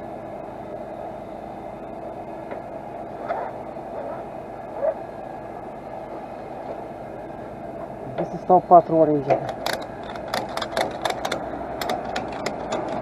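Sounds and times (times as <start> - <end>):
steady engine hum: 0.0 - 13.0.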